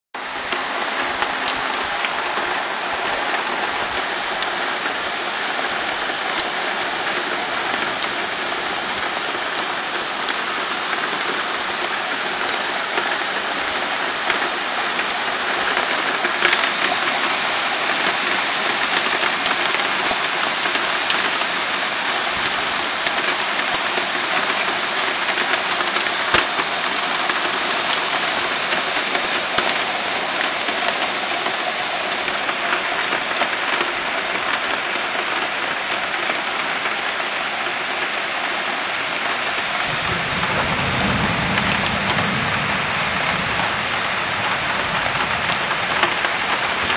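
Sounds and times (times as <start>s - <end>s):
raindrops ticking: 0.2s - 38.2s, 40.0s - 46.9s
heavy rain hissing: 0.2s - 46.9s.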